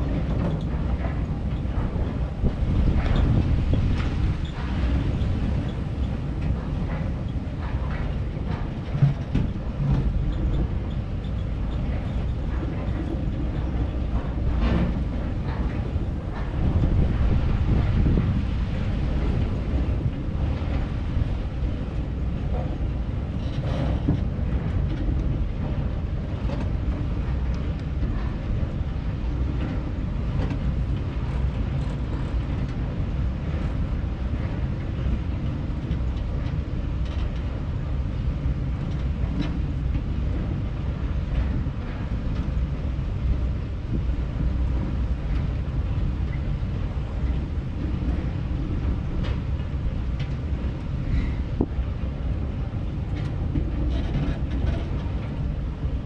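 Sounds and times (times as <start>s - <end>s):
chair ride rumbling on track: 0.0s - 56.0s.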